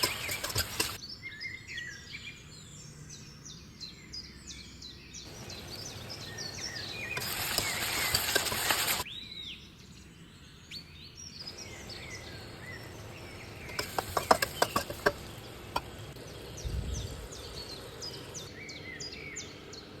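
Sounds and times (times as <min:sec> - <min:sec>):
small birds chirping: 0:00.0 - 0:09.6, 0:10.3 - 0:20.0.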